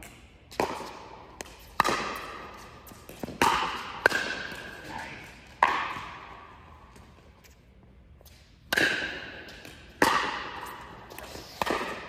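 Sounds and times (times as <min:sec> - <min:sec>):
paddles hitting pickleball: 0:00.0 - 0:07.1, 0:08.2 - 0:12.0.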